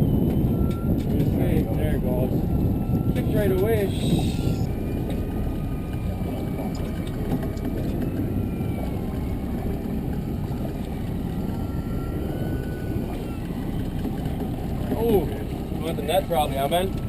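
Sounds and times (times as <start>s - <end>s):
boat motor running: 0.0s - 17.0s
wind and water rush: 0.0s - 17.0s.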